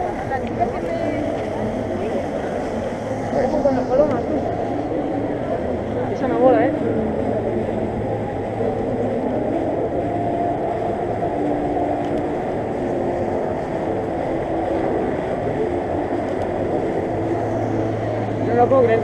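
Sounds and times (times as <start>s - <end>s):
distant voices: 0.0s - 19.0s
traffic rumble: 0.0s - 19.0s.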